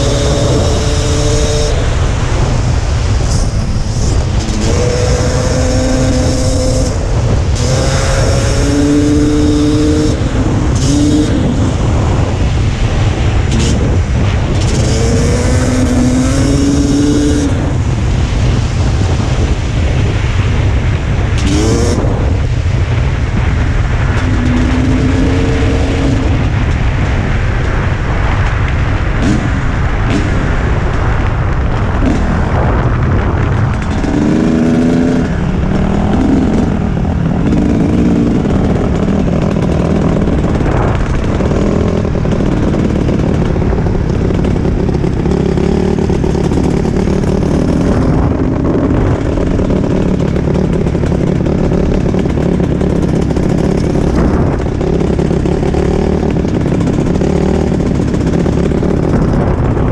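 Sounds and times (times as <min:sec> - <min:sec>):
dirt bike engine revving: 0:00.0 - 0:59.9
wind rumble on microphone: 0:00.0 - 0:59.9.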